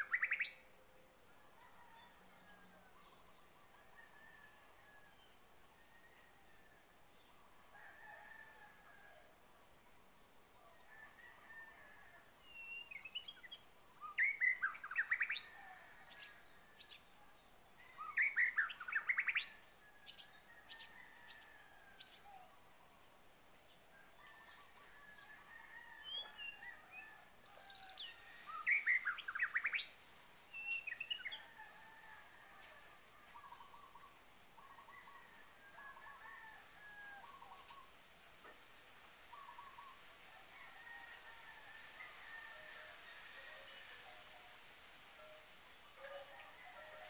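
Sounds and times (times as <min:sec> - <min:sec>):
songbirds chirping: 0:00.0 - 0:08.4, 0:09.4 - 0:32.4, 0:33.0 - 0:41.2.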